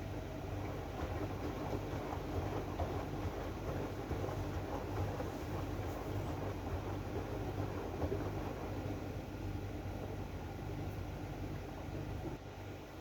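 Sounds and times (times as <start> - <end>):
washing machine humming and rumbling: 0.0 - 13.0.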